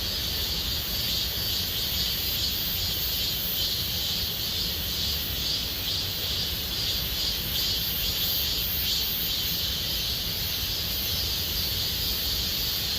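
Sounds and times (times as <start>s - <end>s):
cicadas buzzing: 0.0s - 12.9s.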